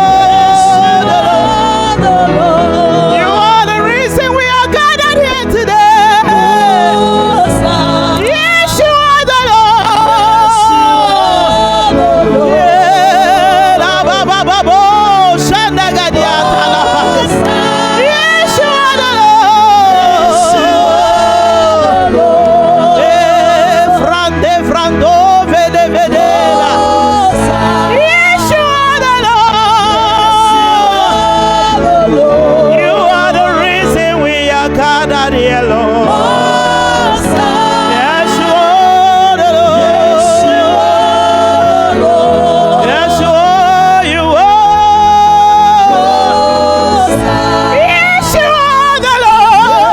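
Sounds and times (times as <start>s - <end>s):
instrumental accompaniment: 0.0s - 49.9s
person singing long gliding notes: 0.0s - 49.9s.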